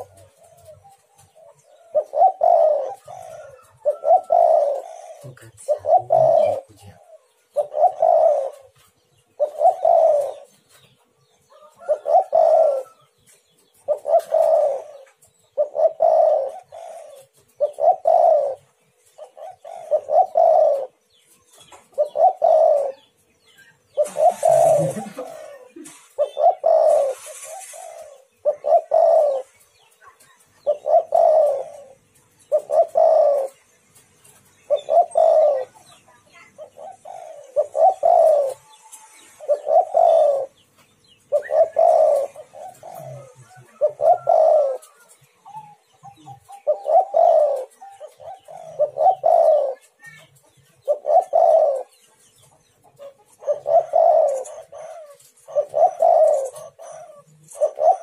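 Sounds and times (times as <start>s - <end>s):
dove cooing: 0.0s - 33.7s, 34.3s - 58.0s.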